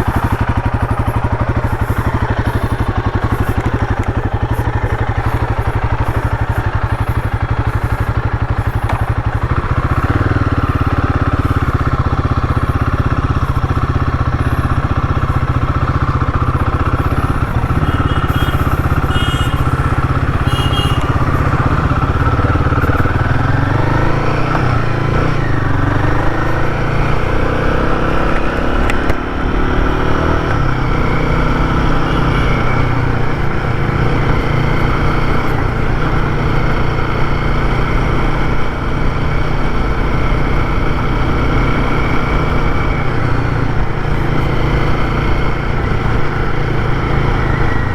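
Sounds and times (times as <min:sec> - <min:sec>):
motorcycle engine running hard: 0:00.0 - 0:47.9.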